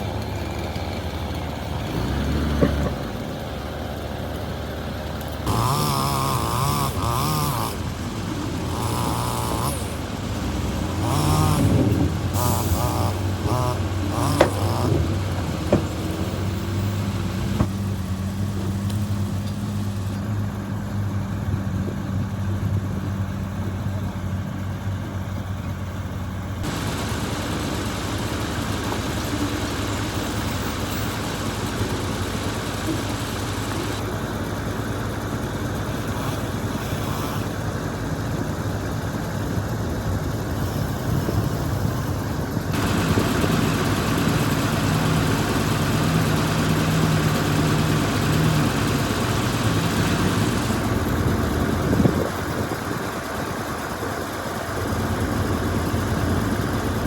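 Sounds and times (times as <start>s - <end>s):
heavy machinery diesel engines: 0.0s - 57.0s.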